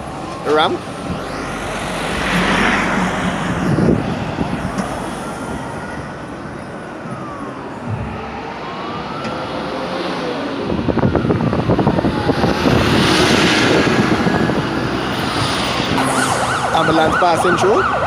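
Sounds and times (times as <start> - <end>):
vehicle passing close: 0.0 - 7.6, 8.7 - 18.0
ambulance siren wailing: 0.0 - 18.0
road traffic: 0.0 - 18.0.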